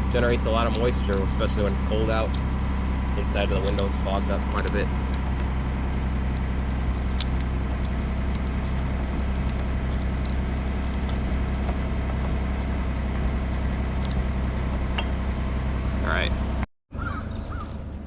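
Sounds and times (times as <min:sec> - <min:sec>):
defroster fan blowing: 0:00.0 - 0:16.6
truck engine idling: 0:00.0 - 0:16.7.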